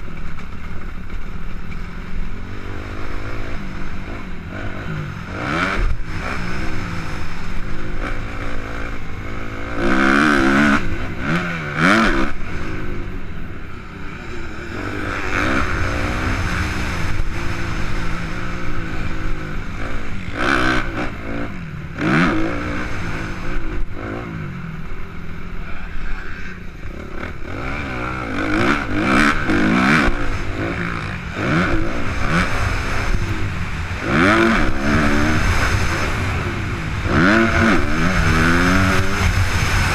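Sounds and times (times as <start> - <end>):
wind and ground noise: 0.0 - 39.9
motocross engine revving: 1.1 - 39.9.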